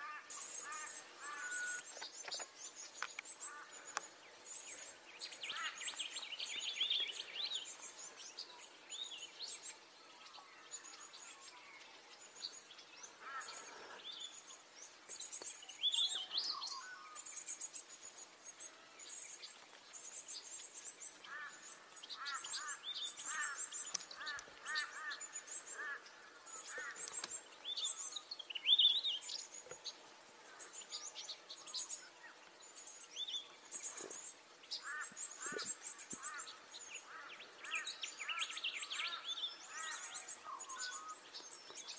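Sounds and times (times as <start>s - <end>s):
finches chirping: 0.0s - 41.9s.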